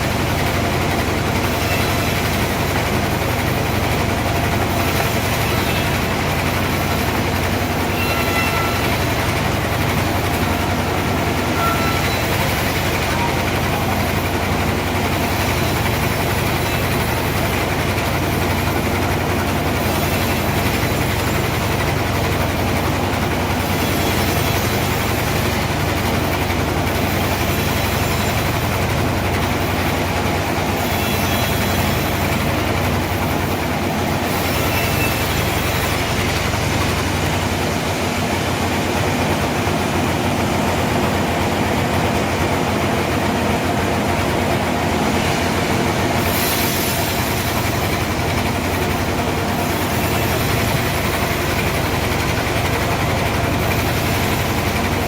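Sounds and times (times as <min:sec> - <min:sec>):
band sawmill drone: 0:00.0 - 0:55.0.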